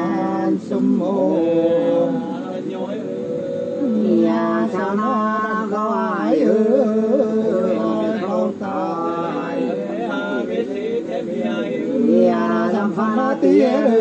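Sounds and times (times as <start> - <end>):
two voices singing unaccompanied: 0.0 - 14.0.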